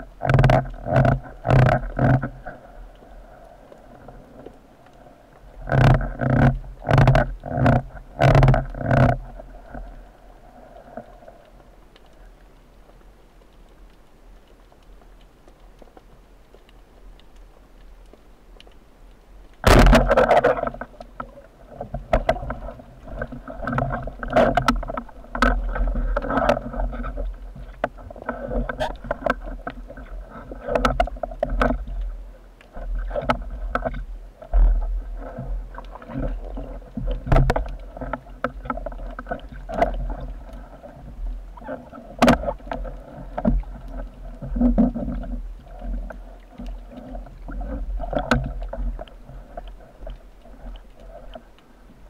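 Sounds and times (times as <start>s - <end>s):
rushing water: 0.0s - 52.0s
underwater knocks and clicks: 0.0s - 52.0s.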